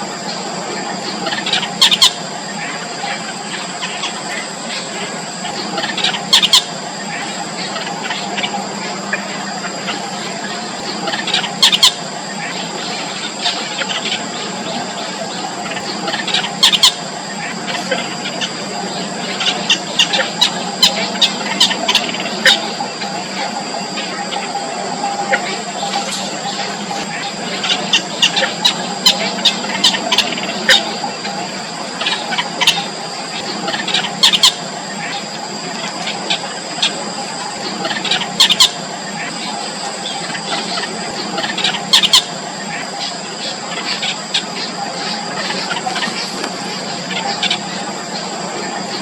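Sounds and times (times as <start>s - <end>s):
high-pitched drone: 0.0s - 49.0s
nestlings squeaky begging calls: 0.0s - 49.0s.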